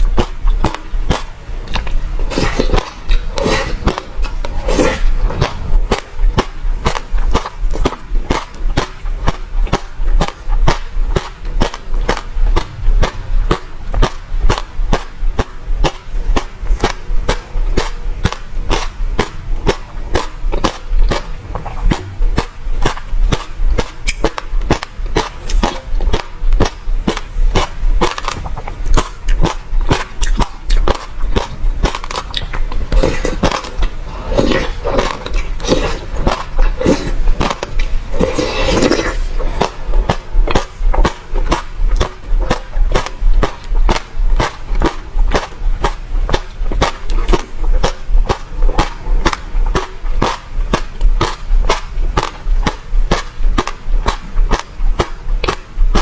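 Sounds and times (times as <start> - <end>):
crunchy chewing: 0.0 - 56.0
wet mouth sounds: 0.0 - 56.0.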